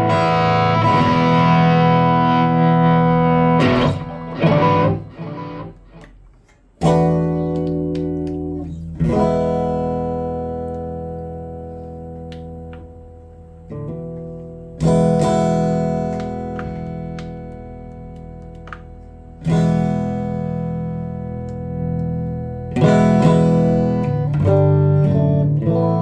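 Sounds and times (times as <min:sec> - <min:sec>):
guitar chords strummed and ringing: 0:00.0 - 0:26.0.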